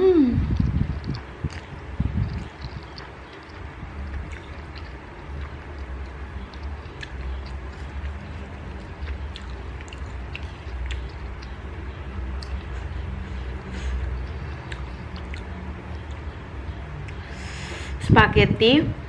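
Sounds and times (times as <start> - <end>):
low rumble: 0.0 - 16.7
chewing: 0.4 - 16.4.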